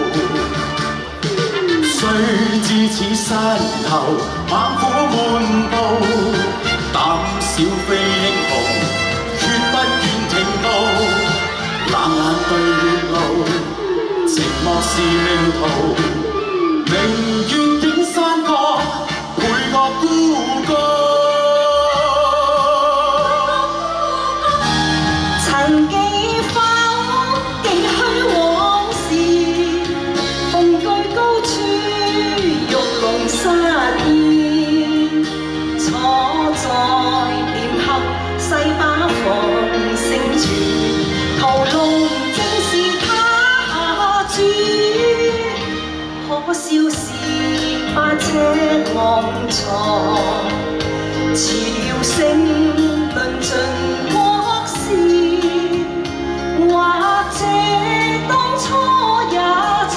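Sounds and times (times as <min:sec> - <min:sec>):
backing music: 0:00.0 - 0:59.9
live band accompaniment: 0:00.0 - 0:59.9
woman singing: 0:00.0 - 0:59.9.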